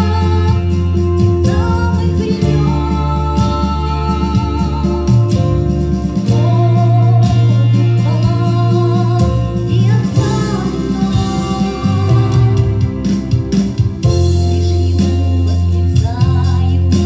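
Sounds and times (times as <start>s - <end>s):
person singing: 0.0s - 13.3s, 15.6s - 17.0s
bass line: 0.0s - 17.0s
guitar accompaniment: 0.0s - 17.0s.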